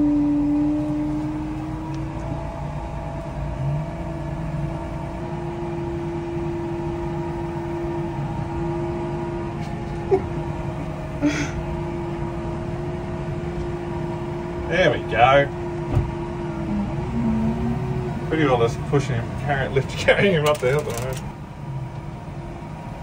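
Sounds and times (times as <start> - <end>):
tractor engine running under load: 0.0 - 23.0.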